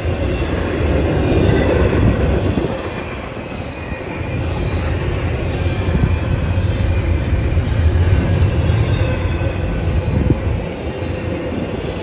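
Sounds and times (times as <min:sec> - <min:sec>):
freight cars rumbling and rattling: 0:00.0 - 0:12.0.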